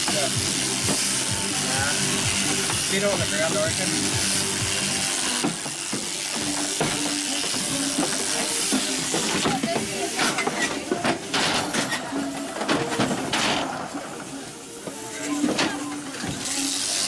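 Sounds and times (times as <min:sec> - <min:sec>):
machinery hissing: 0:00.0 - 0:17.0.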